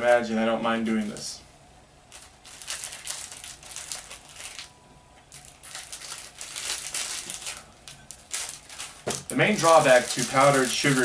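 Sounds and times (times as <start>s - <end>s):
plastic wrapping crinkling: 2.1s - 11.0s.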